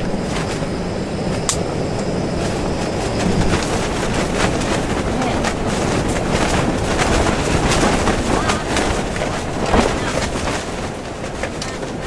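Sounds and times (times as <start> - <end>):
storm wind rushing: 0.0 - 12.0
tent fabric flapping: 0.0 - 12.0.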